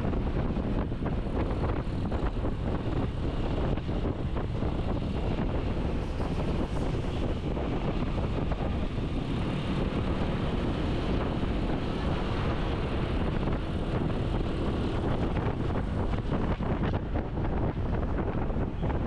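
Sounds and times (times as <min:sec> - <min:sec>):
moving vehicle drone: 0:00.0 - 0:19.0
wind rumbling on microphone: 0:00.0 - 0:19.0.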